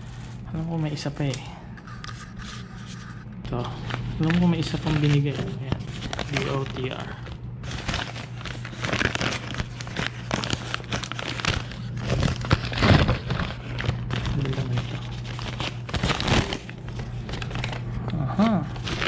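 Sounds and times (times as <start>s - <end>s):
steady low hum: 0.0s - 19.0s
plastic bags rustling and crinkling: 3.5s - 19.0s.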